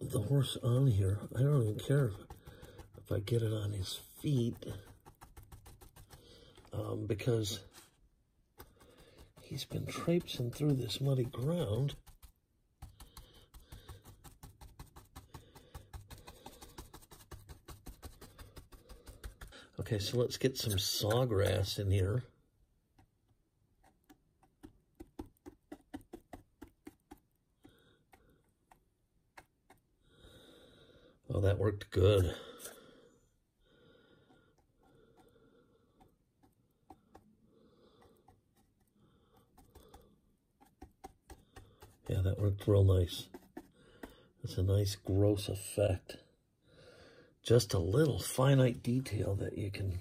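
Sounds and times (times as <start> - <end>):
brush dabbing paste: 0.0 - 30.5, 31.3 - 32.9, 34.0 - 46.2, 47.4 - 50.0.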